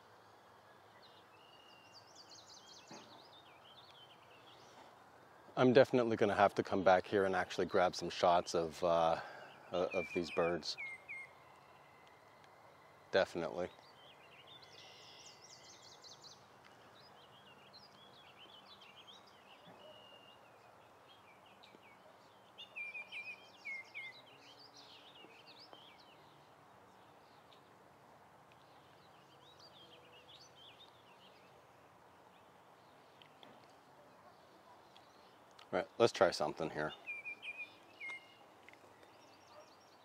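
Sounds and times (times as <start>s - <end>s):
outdoor background hiss: 0.0s - 40.0s
songbird chirping: 0.0s - 40.0s.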